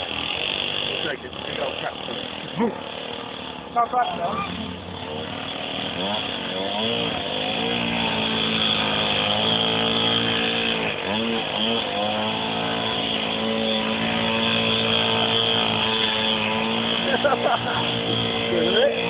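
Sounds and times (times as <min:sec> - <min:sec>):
small motorbike engine revving: 0:00.0 - 0:19.0.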